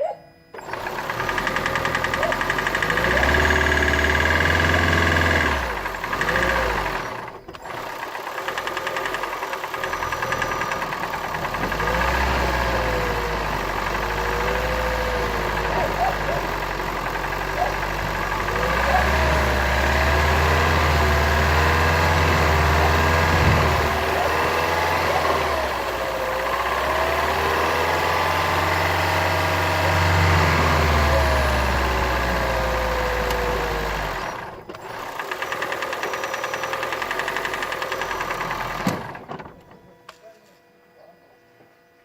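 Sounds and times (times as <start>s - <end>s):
car engine running: 0.5s - 39.8s.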